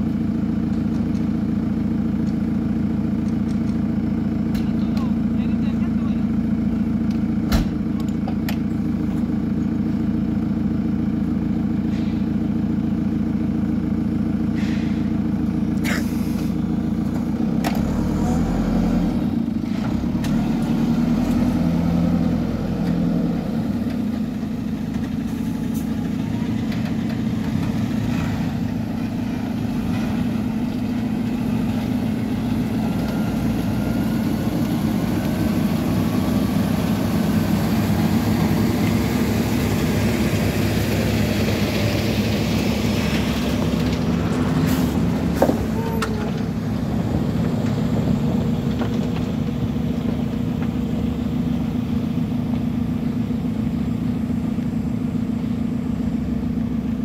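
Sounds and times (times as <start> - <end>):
diesel engines idling: 0.0 - 57.0.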